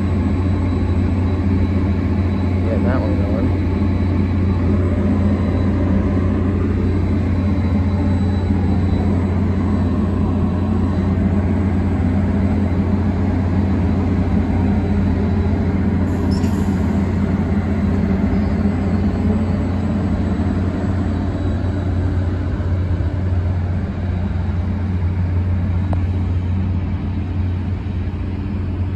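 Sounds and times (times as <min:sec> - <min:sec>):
train humming: 0:00.0 - 0:28.9.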